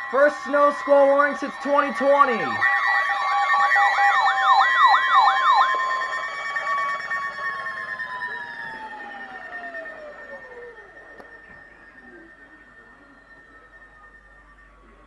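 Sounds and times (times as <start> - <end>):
siren yelping: 0.0 - 15.0.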